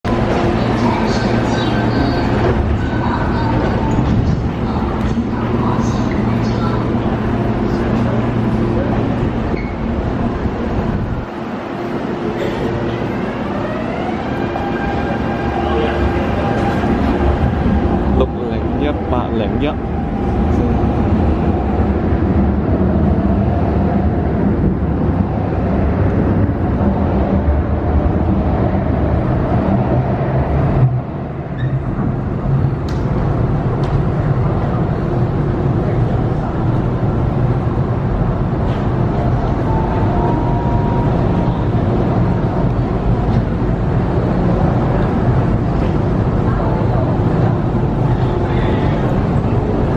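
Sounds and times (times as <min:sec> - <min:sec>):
electric train rumbling on rails: 0:00.0 - 0:49.9.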